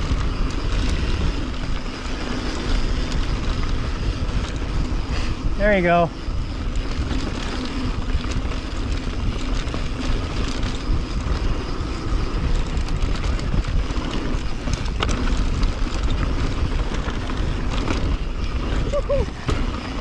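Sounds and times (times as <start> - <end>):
bike rattling over bumps: 0.0 - 20.0
tyres rolling on dirt: 0.0 - 20.0
wind buffeting microphone: 0.0 - 20.0.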